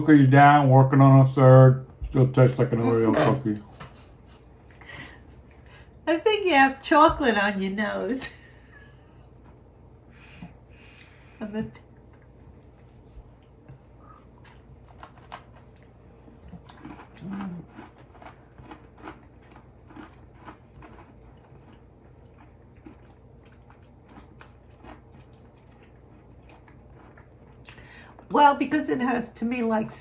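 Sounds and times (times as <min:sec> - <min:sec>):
people chewing cookies: 0:00.2 - 0:06.0, 0:08.2 - 0:28.6.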